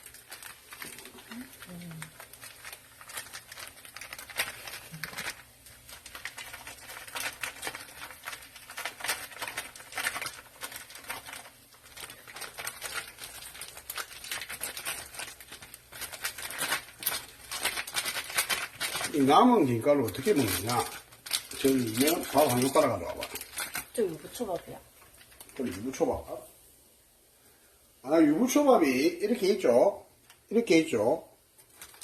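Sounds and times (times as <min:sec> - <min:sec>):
dried seaweed crackling: 0:00.0 - 0:26.5, 0:31.4 - 0:32.0.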